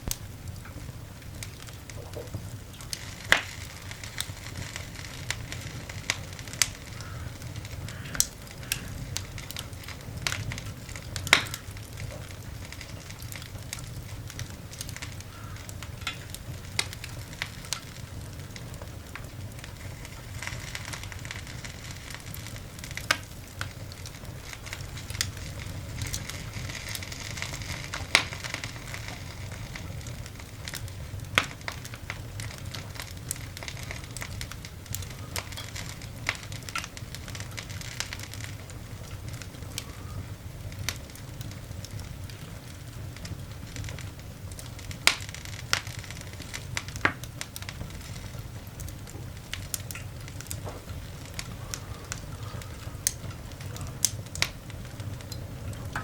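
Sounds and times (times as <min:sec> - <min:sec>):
fire crackles and pops: 0:00.0 - 0:56.0
fire hissing and rumbling: 0:00.0 - 0:56.0.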